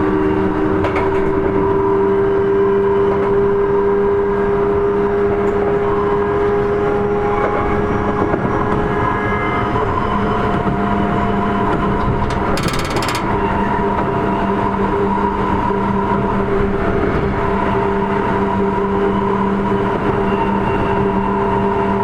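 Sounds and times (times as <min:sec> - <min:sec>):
train motor whine: 0:00.0 - 0:22.0
train wheels rumbling on rails: 0:00.0 - 0:22.0.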